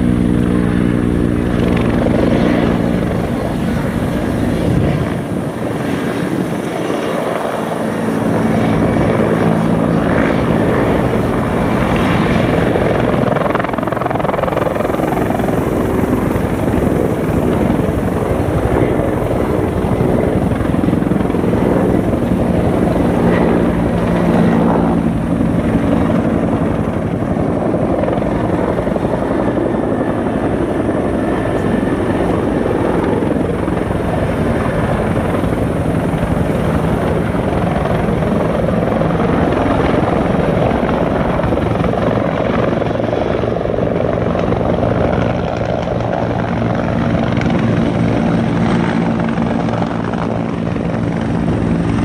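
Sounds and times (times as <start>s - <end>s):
helicopter rotor and turbine: 0.0s - 52.0s.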